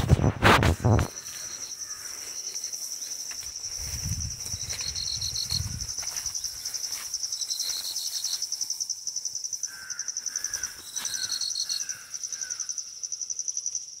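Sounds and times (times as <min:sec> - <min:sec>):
insects trilling: 0:00.1 - 0:14.0
lower insect trill bursts: 0:00.7 - 0:14.0.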